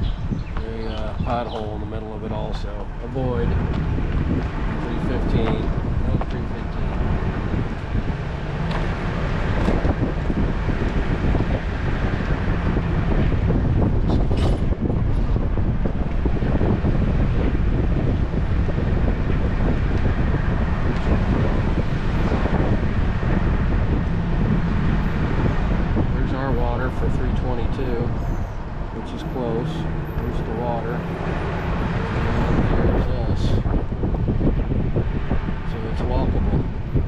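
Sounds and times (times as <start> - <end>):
vehicle engine and tyres rumbling: 0.0 - 37.0
wind buffeting microphone: 0.0 - 37.0.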